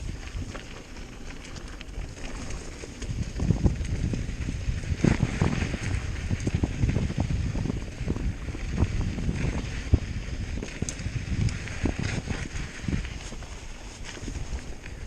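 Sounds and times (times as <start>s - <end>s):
mountain bike rattling: 0.0s - 15.0s
wind noise on microphone: 0.0s - 15.0s.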